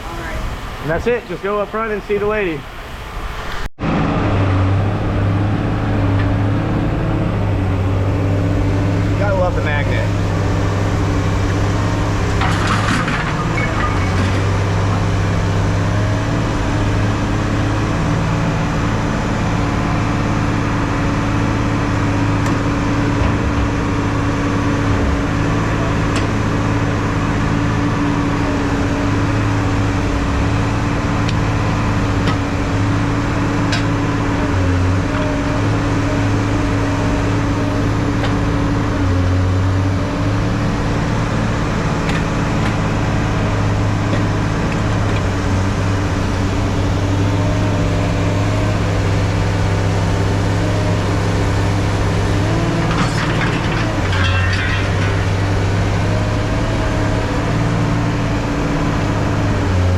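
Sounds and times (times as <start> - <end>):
engine humming steadily: 0.0 - 59.9.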